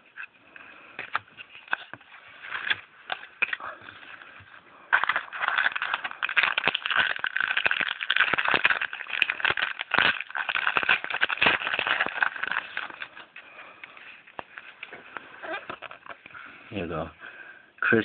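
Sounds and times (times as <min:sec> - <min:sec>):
foil wrapper tearing and crinkling: 0:01.0 - 0:04.2, 0:04.8 - 0:16.3.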